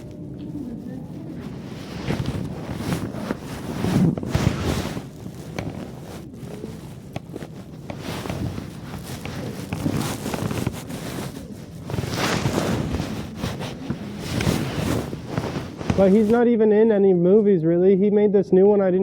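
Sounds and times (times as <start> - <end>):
wind buffeting microphone: 0.0 - 16.5.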